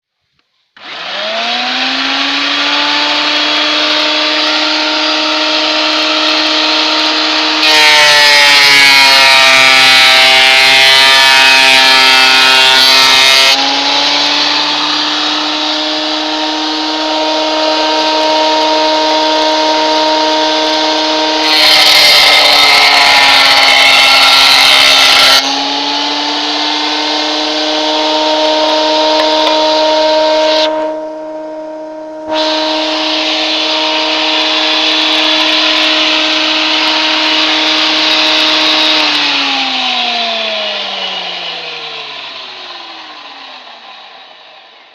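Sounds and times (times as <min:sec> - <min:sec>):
jointer-planer motor whine: 0:00.8 - 0:44.9
planer cutting wood: 0:00.8 - 0:44.9.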